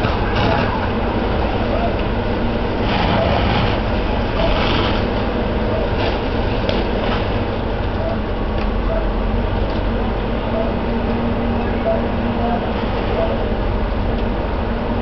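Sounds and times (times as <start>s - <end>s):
diesel engine and pump drone: 0.0s - 15.0s.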